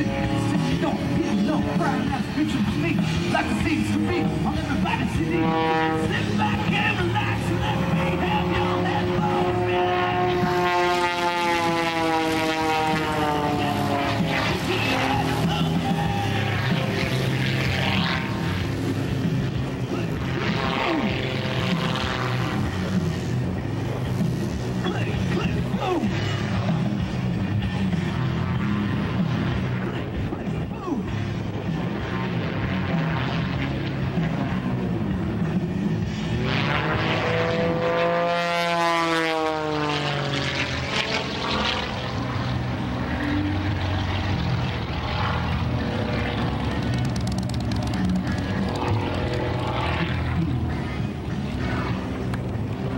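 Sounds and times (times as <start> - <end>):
propeller plane droning overhead: 0.0 - 52.9.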